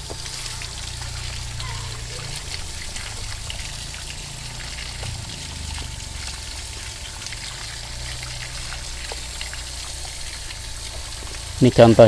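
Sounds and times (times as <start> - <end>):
hose water splashing: 0.0 - 12.0
low steady hum: 0.0 - 12.0.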